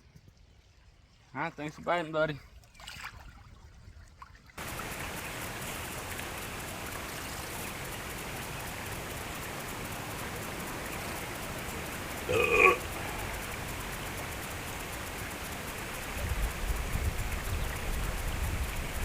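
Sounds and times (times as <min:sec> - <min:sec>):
rushing water: 0:00.4 - 0:19.0.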